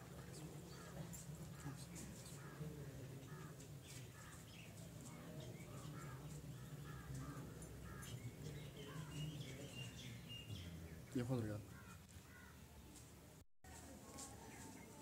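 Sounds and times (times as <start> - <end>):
birds chirping and calling: 0.0 - 13.1.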